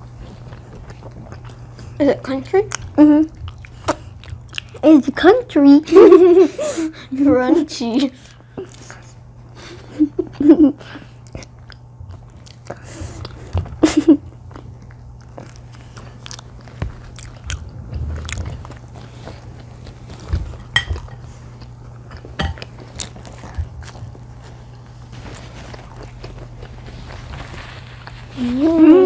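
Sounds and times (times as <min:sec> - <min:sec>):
chewing crunchy pizza: 0:00.0 - 0:05.3, 0:08.2 - 0:29.0
steady low hum: 0:00.0 - 0:29.0.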